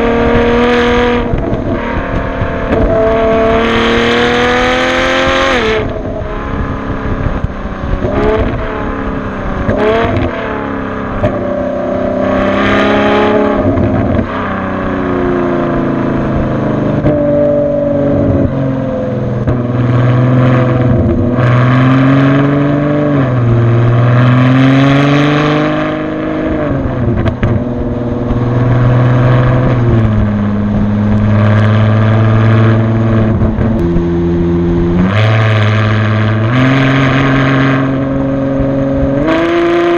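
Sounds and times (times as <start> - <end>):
car engine accelerating and upshifting: 0.0 - 39.9.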